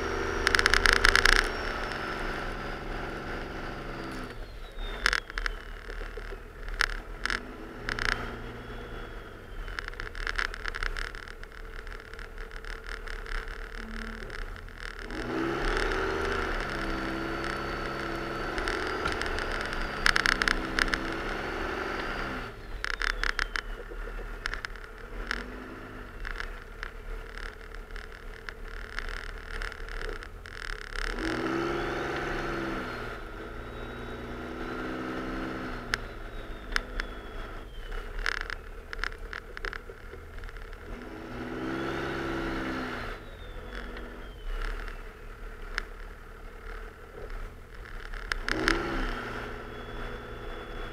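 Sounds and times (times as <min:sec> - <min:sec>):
diesel engine revving with whistle: 0:00.0 - 0:11.3, 0:13.7 - 0:27.5, 0:30.0 - 0:39.8, 0:40.7 - 0:50.9.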